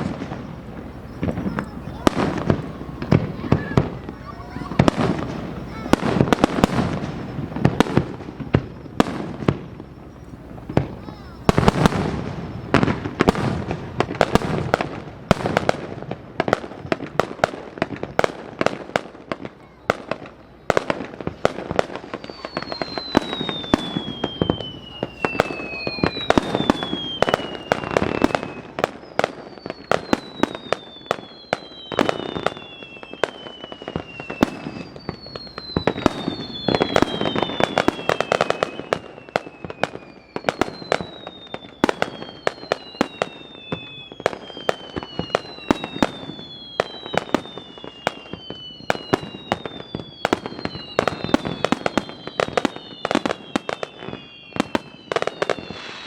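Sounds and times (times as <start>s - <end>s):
falling firework whistles: 0.0s - 56.0s
fireworks bangs and pops: 0.0s - 56.0s.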